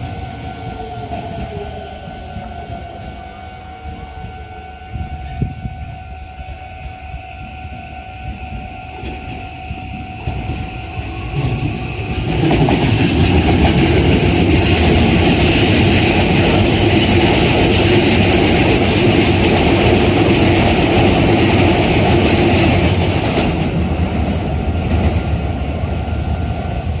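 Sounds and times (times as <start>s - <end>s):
train wheels and running gear: 0.0s - 27.0s.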